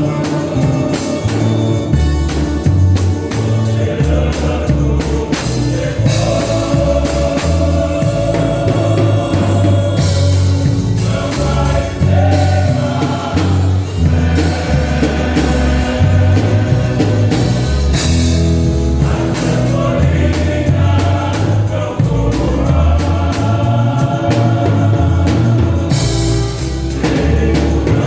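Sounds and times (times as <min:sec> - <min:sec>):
gospel singing with band: 0:00.0 - 0:28.0.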